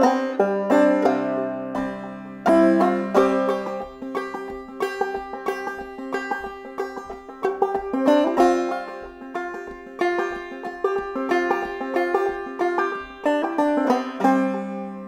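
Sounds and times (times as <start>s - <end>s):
banjo playing old-time tune: 0.0s - 15.0s.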